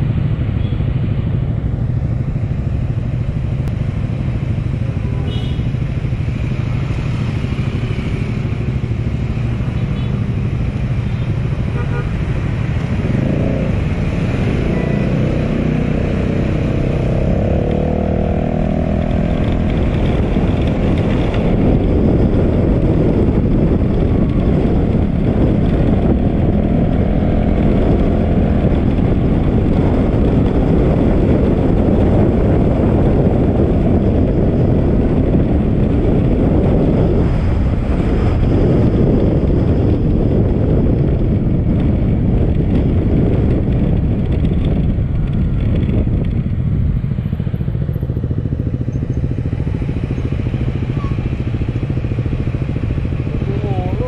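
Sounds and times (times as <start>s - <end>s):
engine and wind rush while riding: 0.0s - 54.0s.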